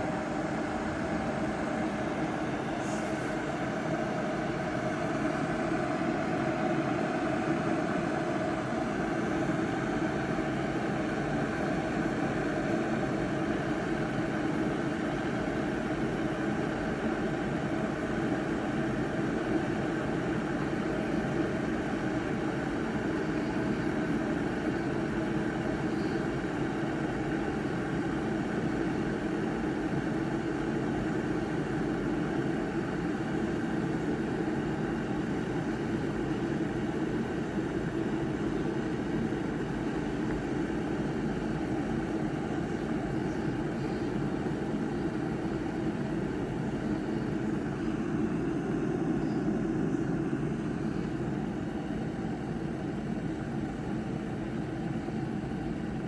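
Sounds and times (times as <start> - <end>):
electric kettle heating water: 0.0 - 56.0.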